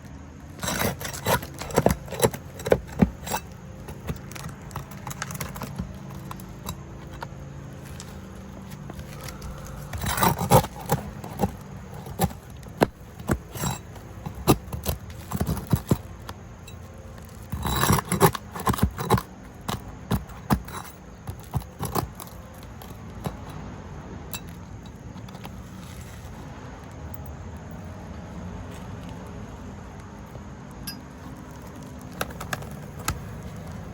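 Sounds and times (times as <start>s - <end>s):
hand tools scraping and clinking: 0.1s - 23.7s, 24.3s - 27.8s, 30.8s - 33.9s.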